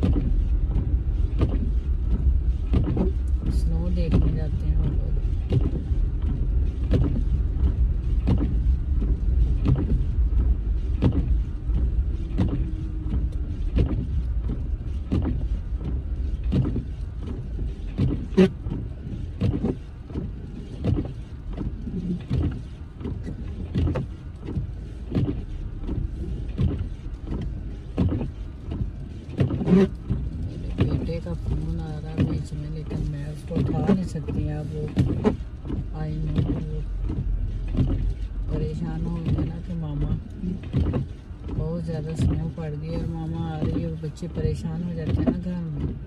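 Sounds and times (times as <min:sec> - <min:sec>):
road and engine rumble: 0:00.0 - 0:46.0
windshield wipers beating: 0:00.0 - 0:46.0.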